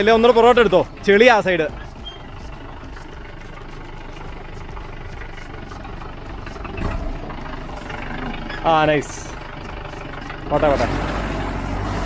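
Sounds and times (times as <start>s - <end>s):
suv engine running at low revs: 0.0s - 12.0s.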